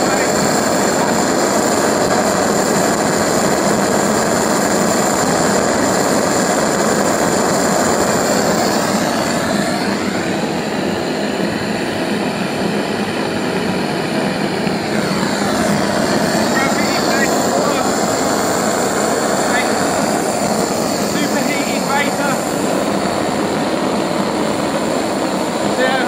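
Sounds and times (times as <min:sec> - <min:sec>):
combustor loud rushing noise: 0:00.0 - 0:26.0.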